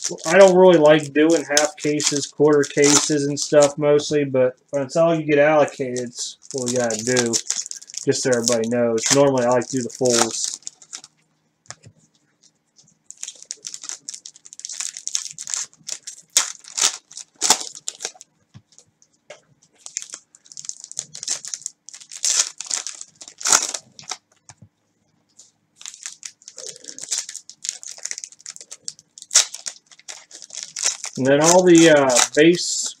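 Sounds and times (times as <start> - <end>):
foil wrappers tearing and crinkling: 0.0 - 3.8, 5.6 - 11.2, 13.1 - 18.8, 19.8 - 24.2, 25.8 - 33.0.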